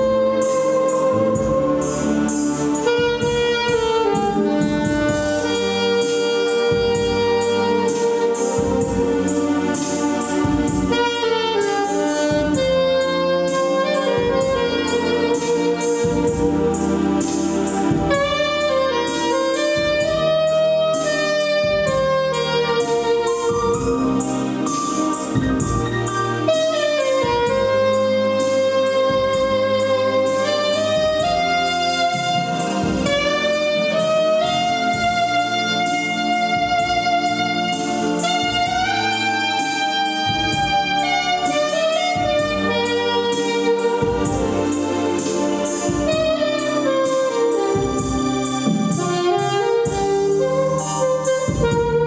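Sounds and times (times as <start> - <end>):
accompaniment with steady beat: 0.0 - 52.0
jazz saxophone melody: 0.0 - 52.0.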